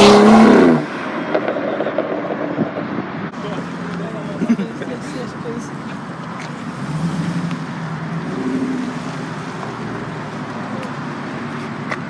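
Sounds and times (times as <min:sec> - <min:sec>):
outdoor vehicle noise: 0:00.0 - 0:12.0
car engine running at low revs: 0:01.3 - 0:12.0.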